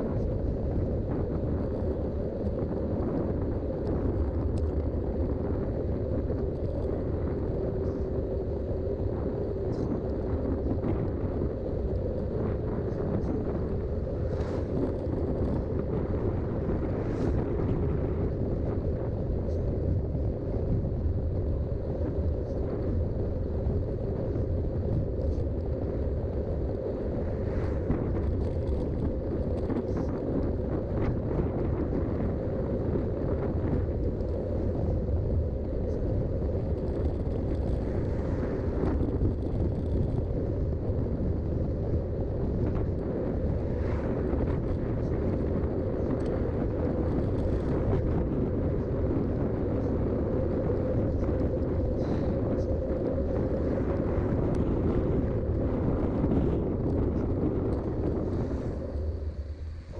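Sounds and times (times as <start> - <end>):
bike tyres rolling: 0.0 - 59.9
wind on microphone: 0.0 - 59.9.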